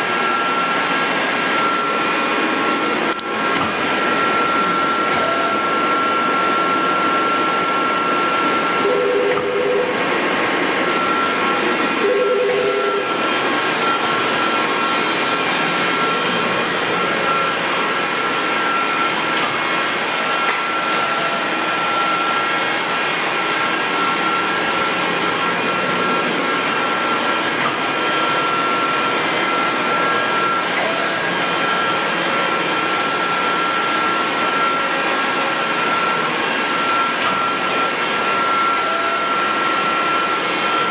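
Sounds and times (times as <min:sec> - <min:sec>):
lathe machine whine: 0:00.0 - 0:40.9.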